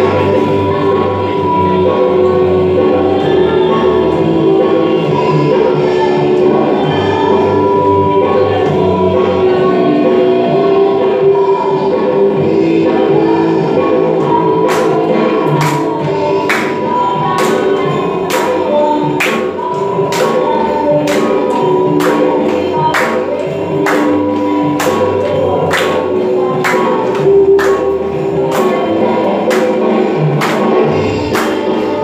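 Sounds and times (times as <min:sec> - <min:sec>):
worship song with singing: 0:00.0 - 0:32.0.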